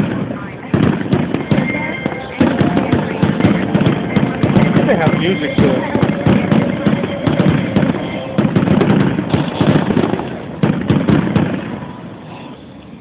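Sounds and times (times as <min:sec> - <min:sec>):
fireworks bangs and crackles: 0:00.0 - 0:12.8.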